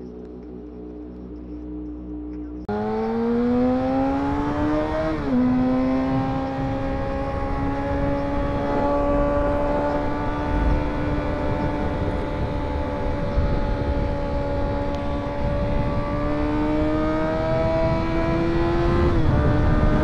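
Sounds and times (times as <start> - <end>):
steady music tones: 0.0 - 19.8
motorcycle engine accelerating: 0.0 - 20.0.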